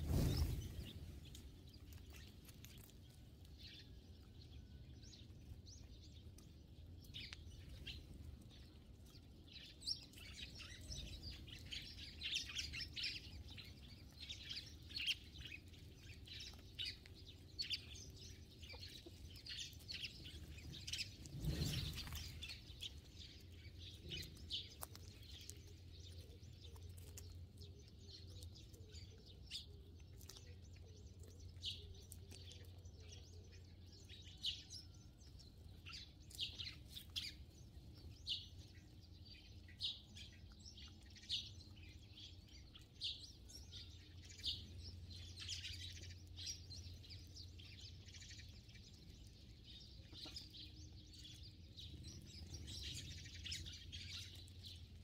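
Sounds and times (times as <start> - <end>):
faint low hum: 0.0 - 55.0
sparrows chirping: 0.0 - 55.0.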